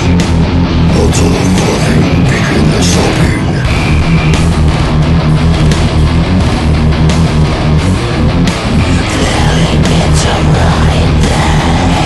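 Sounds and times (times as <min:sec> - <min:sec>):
death metal band playing: 0:00.0 - 0:12.0.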